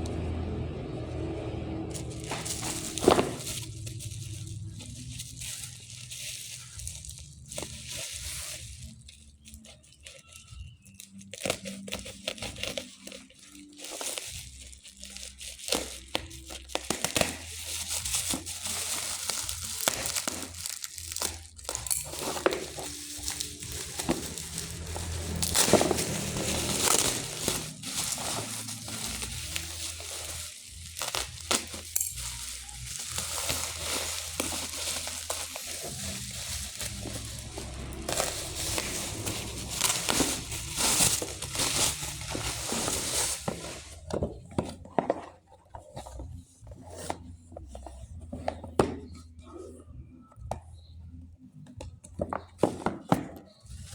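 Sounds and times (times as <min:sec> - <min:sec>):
packaging crinkling and tearing: 0:00.0 - 0:48.0.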